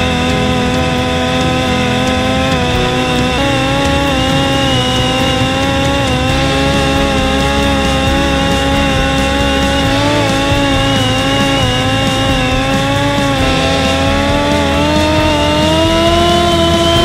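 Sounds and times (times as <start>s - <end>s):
electric motor propeller whine: 0.0s - 17.0s.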